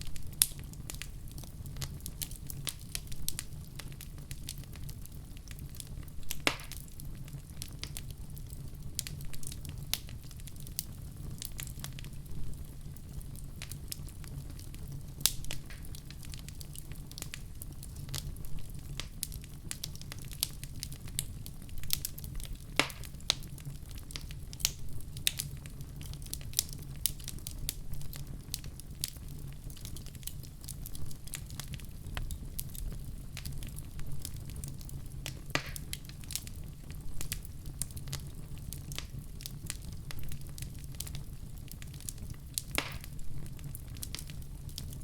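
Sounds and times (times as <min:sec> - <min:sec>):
low rumble of flames: 0:00.0 - 0:45.0
wood fire crackling: 0:00.0 - 0:45.0.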